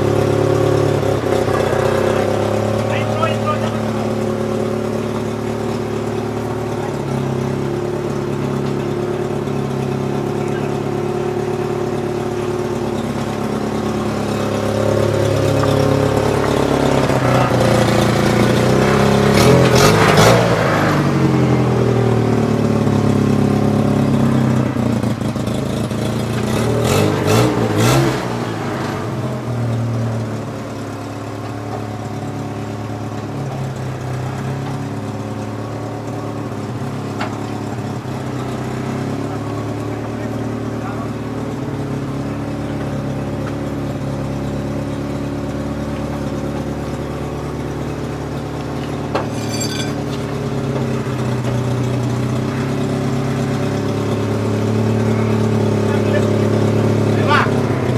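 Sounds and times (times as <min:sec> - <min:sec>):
vehicle engine revving: 0:00.0 - 0:57.9.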